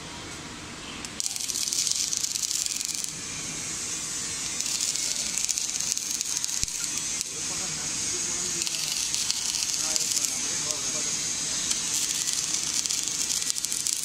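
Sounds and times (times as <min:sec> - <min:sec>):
welding arc crackling and hissing: 0:01.0 - 0:14.0.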